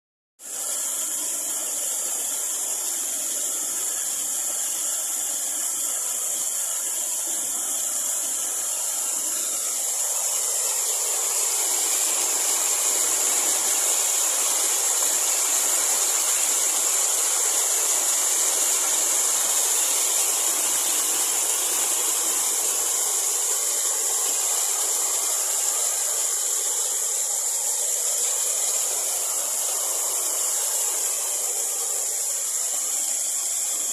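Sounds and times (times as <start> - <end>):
waterfall rushing: 0.6 - 33.9.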